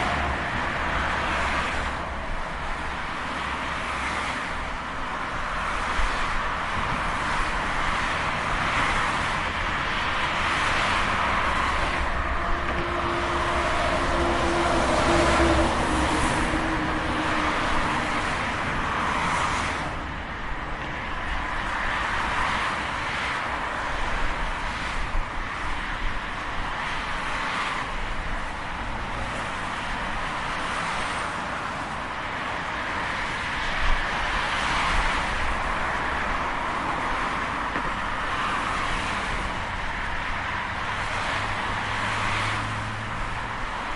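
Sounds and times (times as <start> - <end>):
highway traffic rushing past: 0.0 - 43.9.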